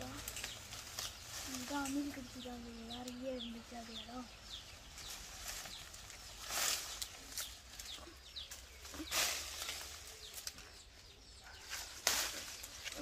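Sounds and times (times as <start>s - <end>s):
faint bird chirps: 0.0s - 13.0s
leafy branches rustling: 0.0s - 13.0s.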